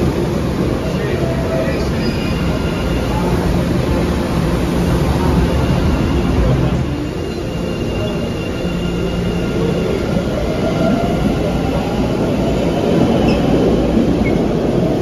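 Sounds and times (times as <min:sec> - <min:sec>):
subway train motors and wheels rumbling: 0:00.0 - 0:15.0.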